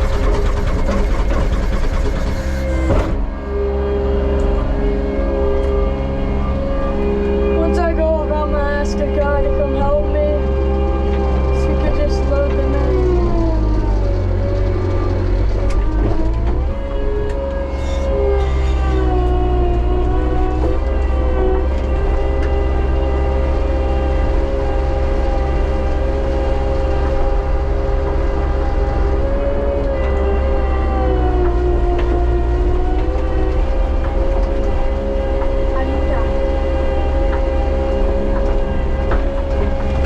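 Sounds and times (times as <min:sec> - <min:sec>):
diesel engine rumble: 0:00.0 - 0:40.0
whine sliding in pitch: 0:00.0 - 0:40.0.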